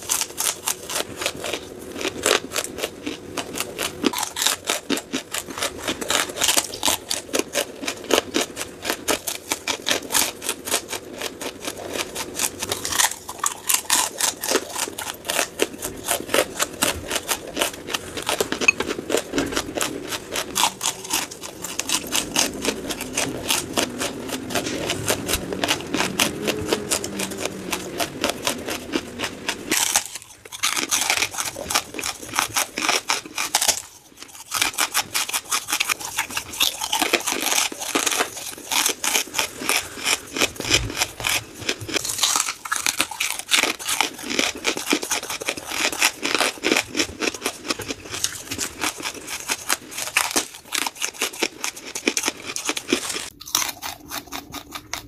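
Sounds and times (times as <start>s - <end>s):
charcoal being chewed crunching: 0.0s - 55.0s.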